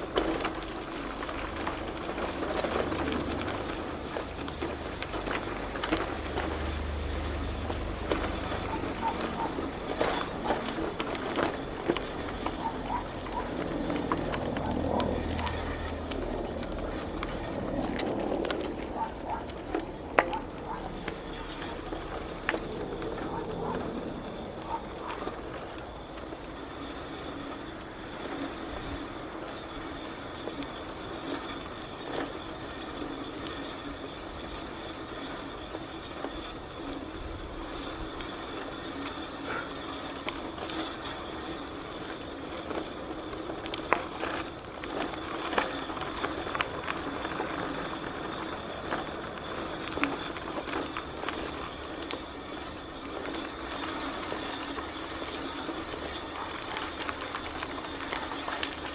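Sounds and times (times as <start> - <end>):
bicycle clicks and rattles: 0.0 - 58.9
bicycle rolling: 0.0 - 58.9.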